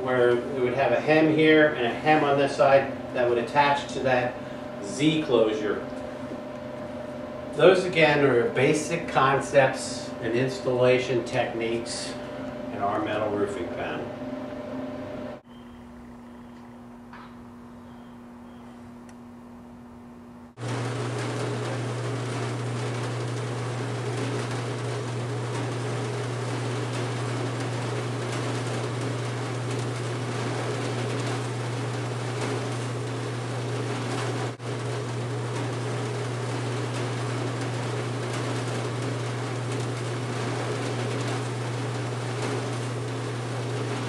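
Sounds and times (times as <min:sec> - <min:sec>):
sheet-metal machine humming: 0:00.0 - 0:44.0.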